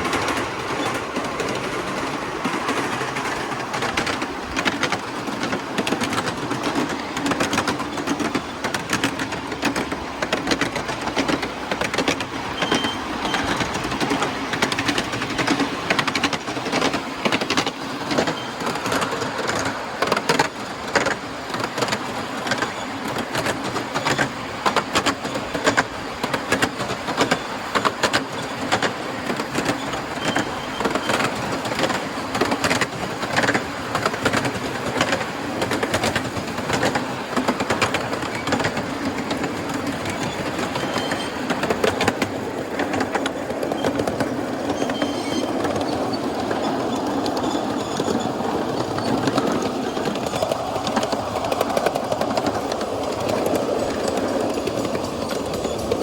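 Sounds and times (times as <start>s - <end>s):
miniature steam train clicking: 0.0s - 56.0s.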